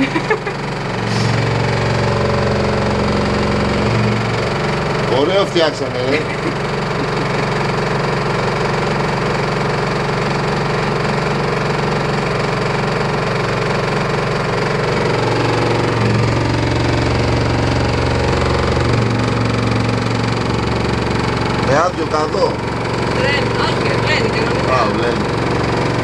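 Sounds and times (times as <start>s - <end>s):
washer-dryer rumbling and rattling: 0.0s - 26.0s.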